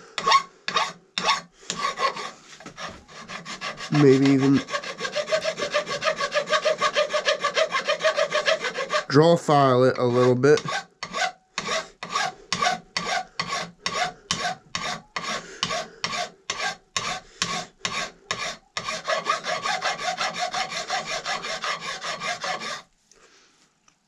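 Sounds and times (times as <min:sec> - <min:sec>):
file rasping on steel: 0:00.0 - 0:22.9.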